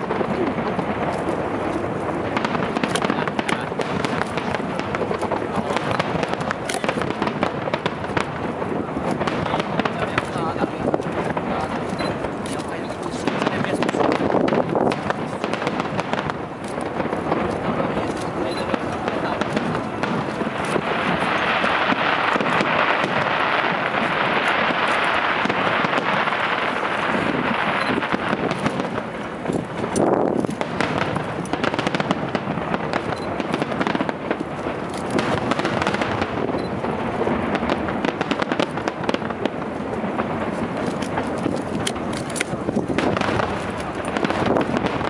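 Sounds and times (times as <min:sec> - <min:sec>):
fireworks popping and banging: 0:00.0 - 0:45.0.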